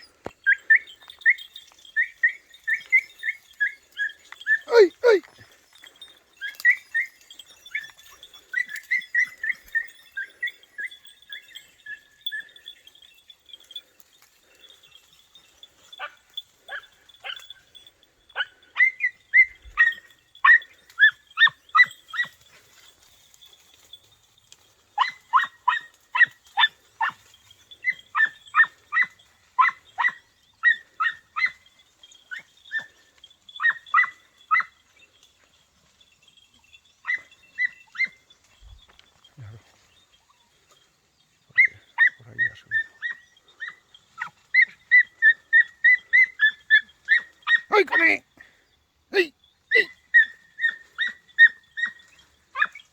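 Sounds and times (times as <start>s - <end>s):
hounds yelping: 0.0s - 40.8s, 41.5s - 48.3s, 49.2s - 52.9s.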